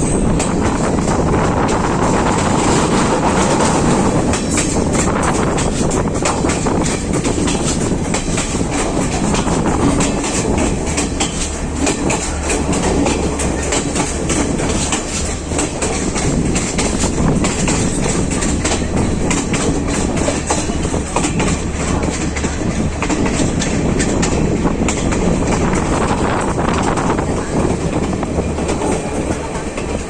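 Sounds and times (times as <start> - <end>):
train rumble: 0.0 - 30.0
wheels clattering over track: 0.0 - 30.0.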